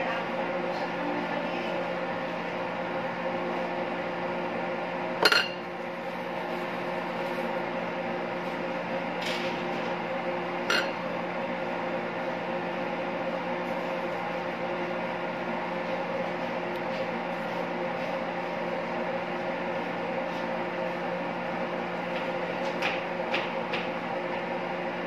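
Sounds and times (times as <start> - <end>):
kitchen machinery hum: 0.0 - 25.0.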